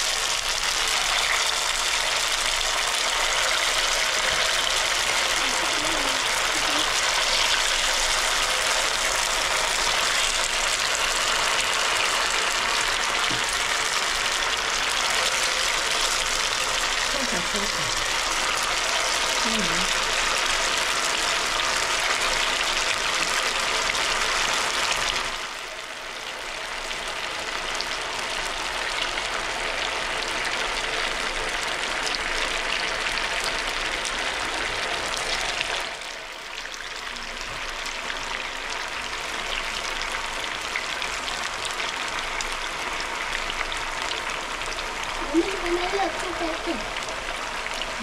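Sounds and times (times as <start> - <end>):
potatoes deep-frying in oil: 0.0 - 48.0.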